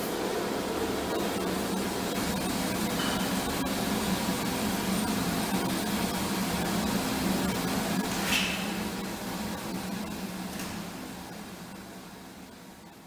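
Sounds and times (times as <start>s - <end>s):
oil burner blower fan humming: 0.0s - 13.0s.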